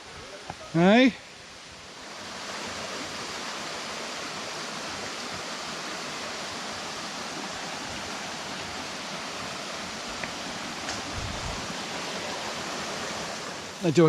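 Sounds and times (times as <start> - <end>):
stream running water: 0.0 - 14.0.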